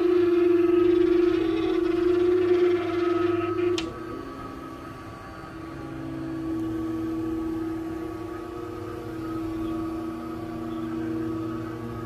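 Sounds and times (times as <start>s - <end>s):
window-cleaning robot humming: 0.0s - 12.0s.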